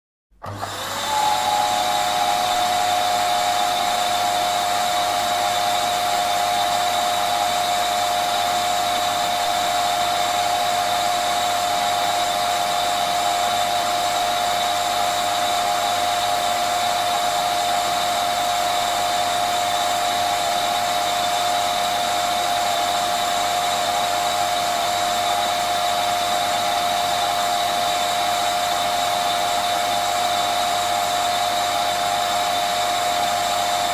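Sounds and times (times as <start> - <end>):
vacuum cleaner running: 0.4 - 33.9.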